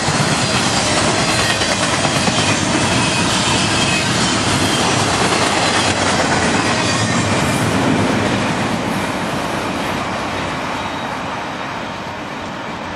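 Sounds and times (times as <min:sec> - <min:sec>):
train wheels rumbling on track: 0:00.0 - 0:12.9.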